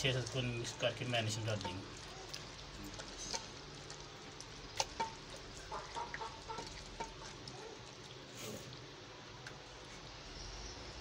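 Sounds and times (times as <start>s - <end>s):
hands kneading wet meat: 0.0s - 11.0s.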